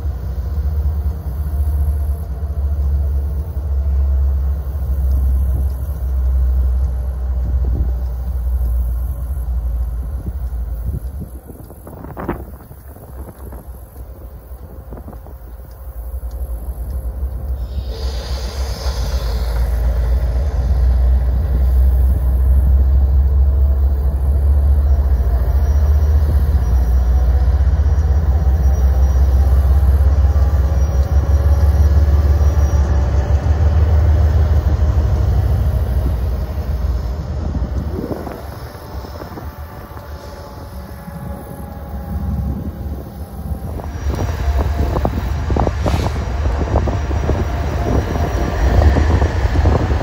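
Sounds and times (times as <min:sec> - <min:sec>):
train rumbling past: 0:00.0 - 0:50.0.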